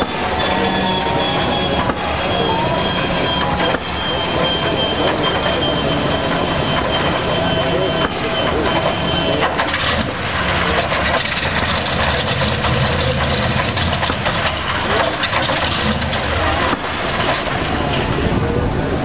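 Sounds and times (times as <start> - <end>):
radial engine running: 0.0 - 19.0.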